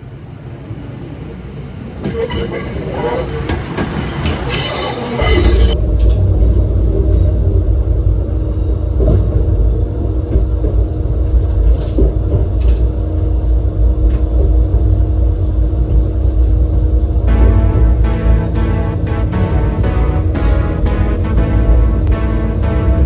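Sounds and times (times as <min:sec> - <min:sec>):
railcar engine rumble: 0:00.0 - 0:23.0.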